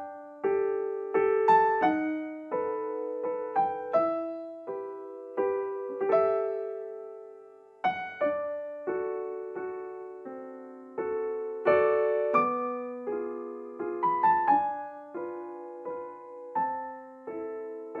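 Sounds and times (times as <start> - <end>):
calm piano music: 0.0 - 18.0.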